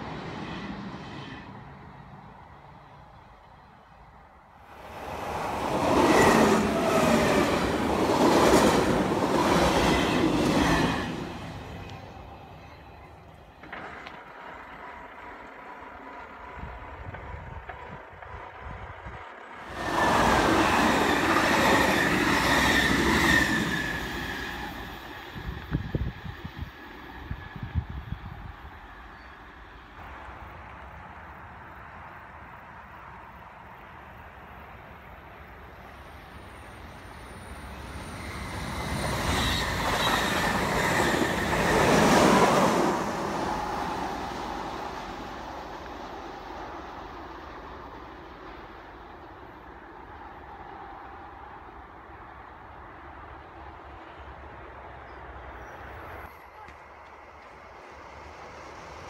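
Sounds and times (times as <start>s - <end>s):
train wheels rushing on rail: 0.0s - 59.0s.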